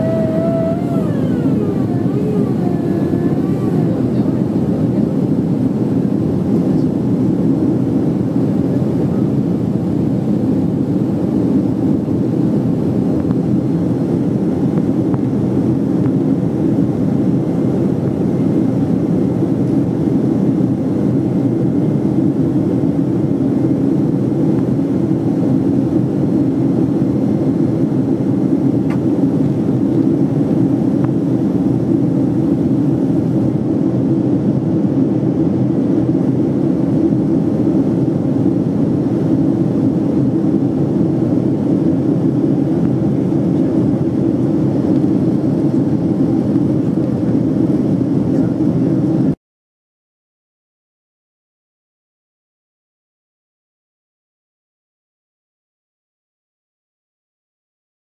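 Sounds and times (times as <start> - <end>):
airplane cabin engine rumble: 0.0 - 49.4.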